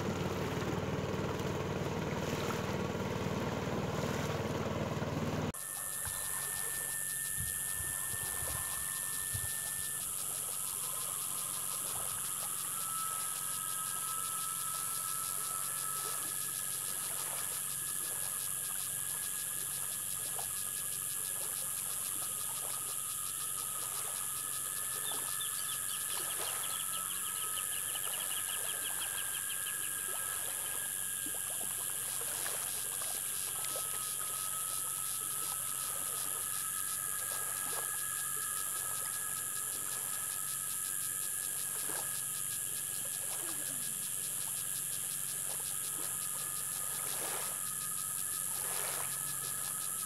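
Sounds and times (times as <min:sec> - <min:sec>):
insects and frogs chorus: 0:05.5 - 0:50.0.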